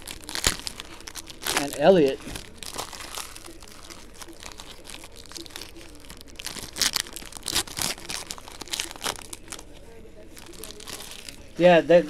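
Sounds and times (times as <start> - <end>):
cards rustling: 0.0 - 11.5
wrapper crinkling and tearing: 0.0 - 11.6.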